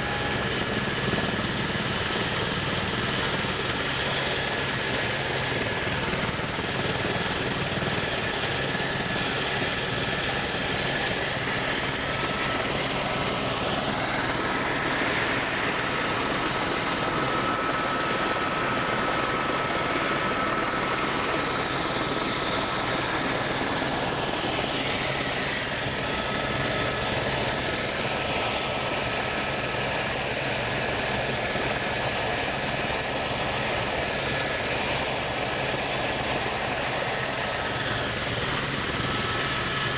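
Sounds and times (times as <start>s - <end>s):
light aircraft cabin drone: 0.0s - 39.9s.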